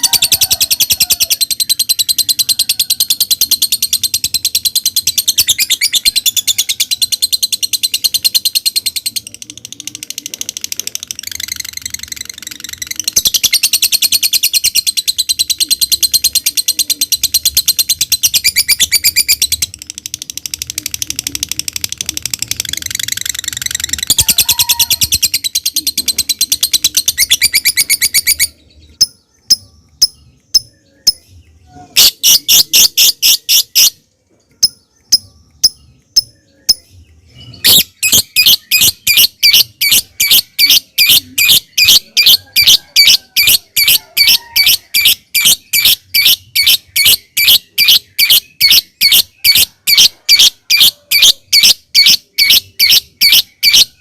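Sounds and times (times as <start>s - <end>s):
lovebird shrill rapid chirps: 0.0s - 9.3s, 10.5s - 31.2s, 31.9s - 34.0s, 37.6s - 54.0s
lovebird ticking calls: 0.1s - 31.3s, 32.0s - 54.0s.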